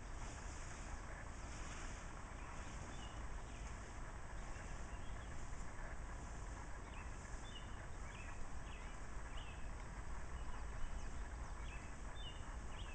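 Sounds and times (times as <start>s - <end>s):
low rumble and hiss: 0.0s - 12.9s
small birds chirping: 0.0s - 12.9s.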